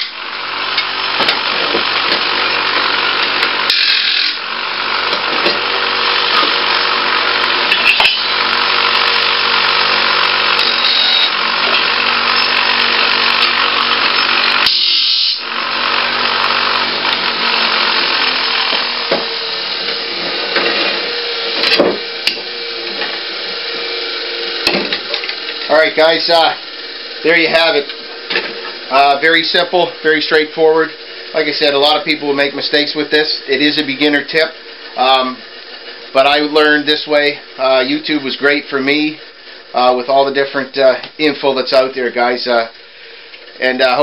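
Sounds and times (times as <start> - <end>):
metal grinding on wheel: 0.0 - 40.3
grinder motor hum: 0.0 - 44.0.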